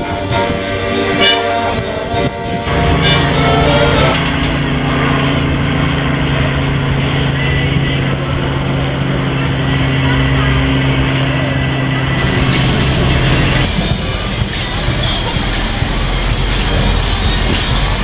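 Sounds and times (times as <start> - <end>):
low engine hum: 0.0 - 18.0
murmur of voices: 0.0 - 18.0
outdoor noise: 0.0 - 18.0.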